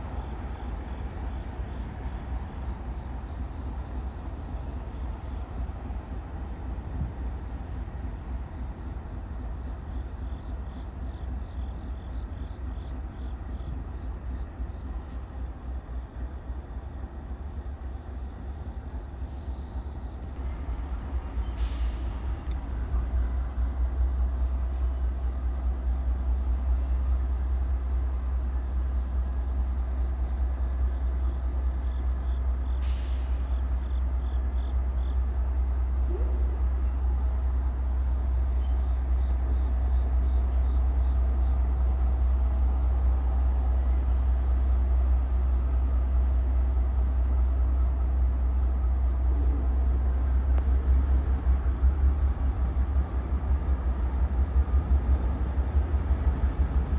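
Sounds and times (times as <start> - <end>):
train rumbling on tracks: 0.0 - 56.9.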